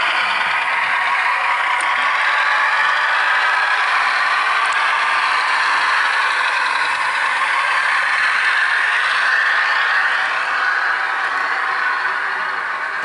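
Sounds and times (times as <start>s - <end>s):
diesel engine sound from small speaker: 0.0s - 13.0s.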